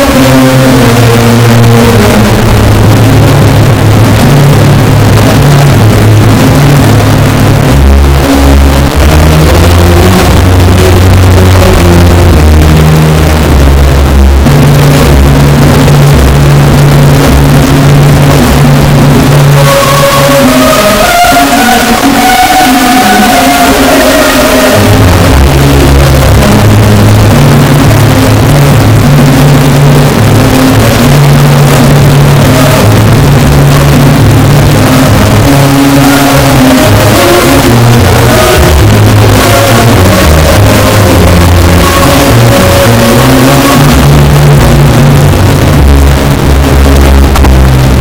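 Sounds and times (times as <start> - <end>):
distorted bass-boosted music: 0.0 - 48.0.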